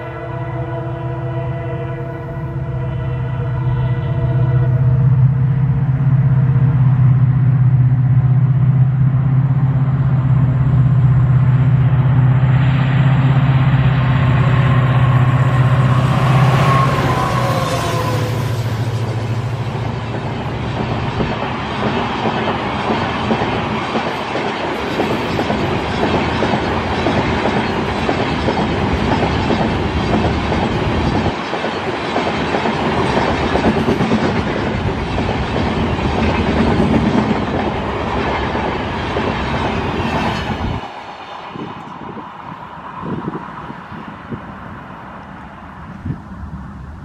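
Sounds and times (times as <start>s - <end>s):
train coaches passing: 0.0s - 47.0s.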